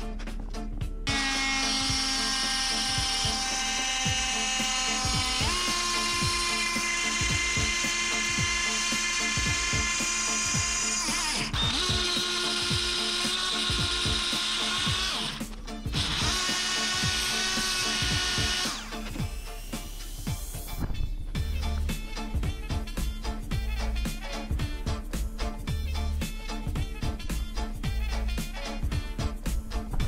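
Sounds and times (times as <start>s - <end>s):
power tool whining: 1.1s - 25.2s.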